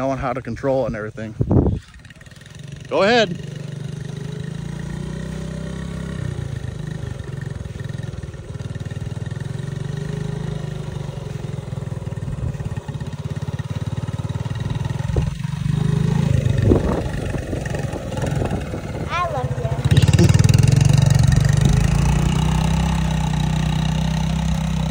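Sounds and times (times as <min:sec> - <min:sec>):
small engine running: 0:01.8 - 0:24.9.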